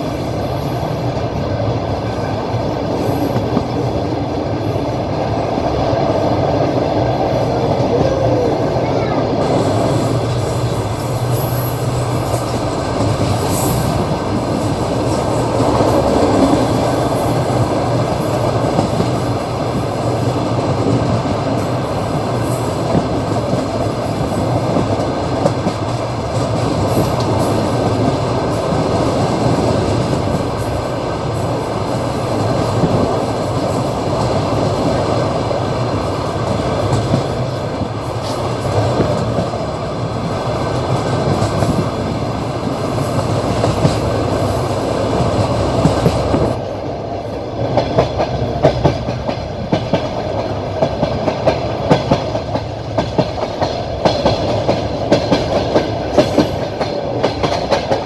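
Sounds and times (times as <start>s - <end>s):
rail clacks: 0.0s - 58.0s
train wheels rumbling on rail: 0.0s - 58.0s.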